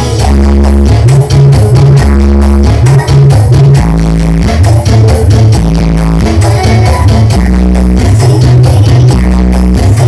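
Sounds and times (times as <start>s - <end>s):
loud electronic dance music: 0.0s - 10.0s.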